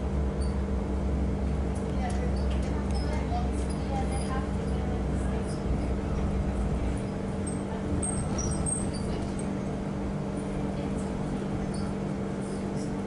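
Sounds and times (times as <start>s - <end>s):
tram running hum: 0.0s - 13.0s.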